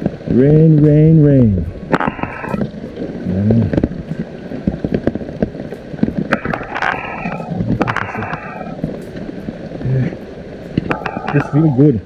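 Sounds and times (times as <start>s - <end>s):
rain falling: 0.0s - 12.0s
raindrops tapping near microphone: 0.0s - 12.0s.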